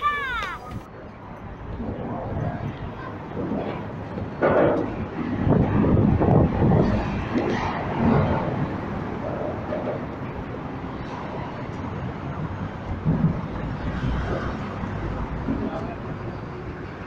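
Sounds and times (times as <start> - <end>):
bus and street traffic rumble: 0.0 - 17.0.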